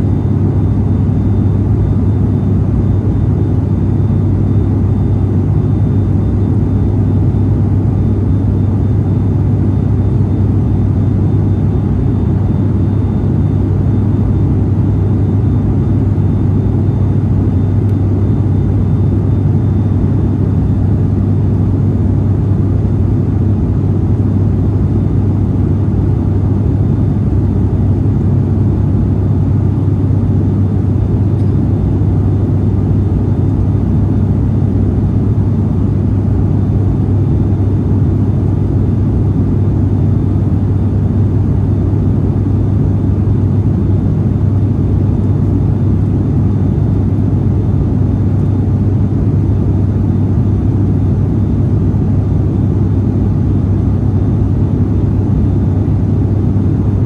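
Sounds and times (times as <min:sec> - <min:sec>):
turboprop cabin drone: 0:00.0 - 0:57.0.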